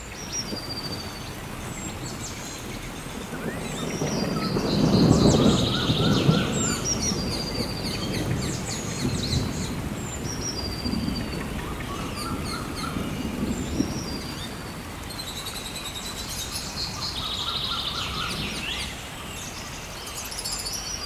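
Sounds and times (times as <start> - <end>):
birds chirping and whistling: 0.2 - 21.0.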